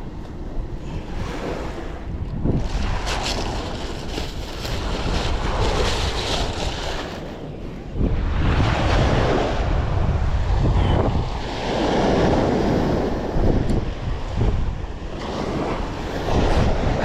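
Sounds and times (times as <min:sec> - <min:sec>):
sea waves: 0:00.0 - 0:17.0
wind buffeting microphone: 0:00.0 - 0:17.0.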